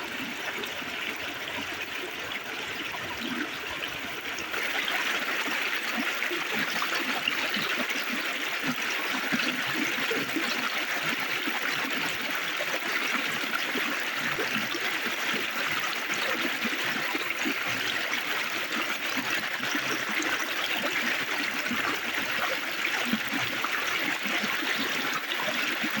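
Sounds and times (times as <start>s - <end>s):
river water babbling over stones: 0.0s - 26.0s.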